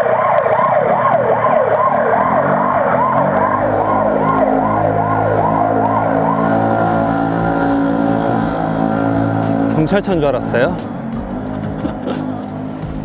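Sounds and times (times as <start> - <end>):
siren yelping: 0.0 - 12.8
steady low tones: 0.0 - 13.0.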